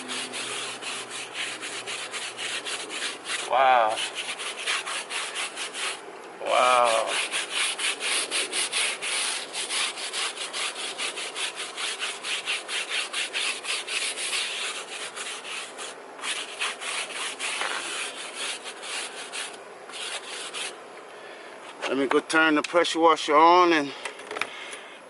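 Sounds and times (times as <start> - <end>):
brush scrubbing wet tire: 0.0 - 20.8.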